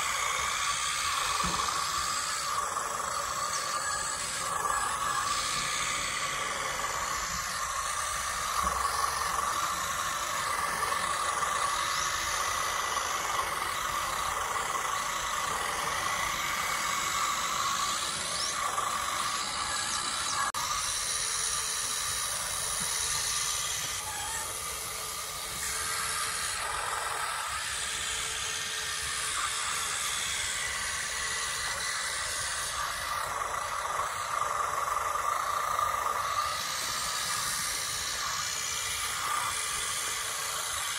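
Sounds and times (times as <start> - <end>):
simulated diesel engine sound: 0.0 - 40.9
whine of electric drives: 0.0 - 40.9.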